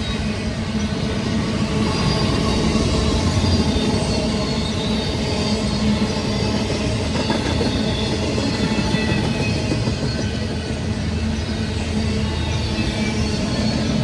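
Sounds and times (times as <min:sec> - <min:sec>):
freight train wheels on rail: 0:00.0 - 0:14.0.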